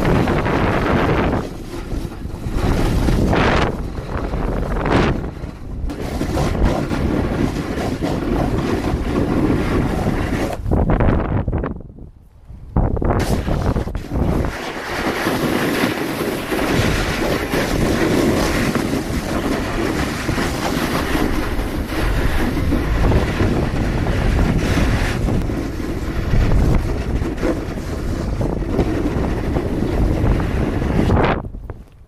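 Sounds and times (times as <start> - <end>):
snowboard scraping on snow: 0.0 - 11.0, 13.2 - 31.4
wind buffeting microphone: 0.0 - 32.0.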